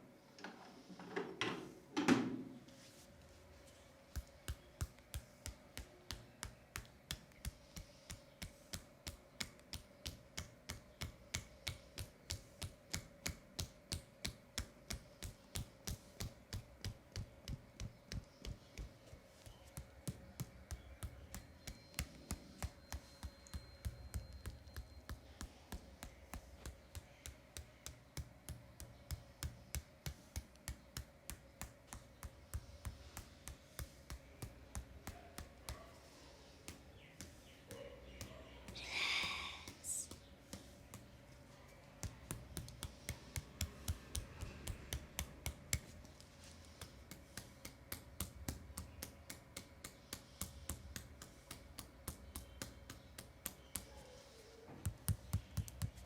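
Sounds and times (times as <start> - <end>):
faint hum: 0.0 - 56.0
percussive tapping massage: 4.0 - 56.0.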